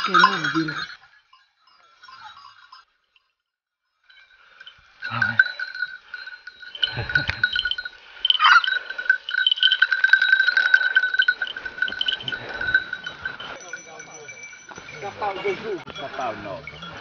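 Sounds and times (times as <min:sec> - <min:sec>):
dog bells jangling: 0:00.0 - 0:17.0.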